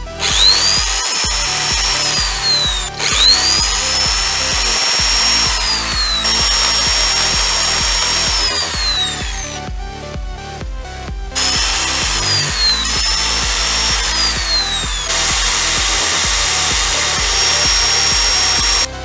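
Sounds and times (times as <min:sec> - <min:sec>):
electric drill whine: 0:00.0 - 0:09.6, 0:11.4 - 0:19.0.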